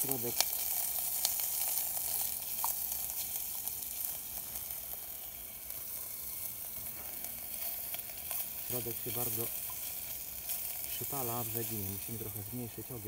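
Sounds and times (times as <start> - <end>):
sausage sizzling in oil: 0.0 - 13.0.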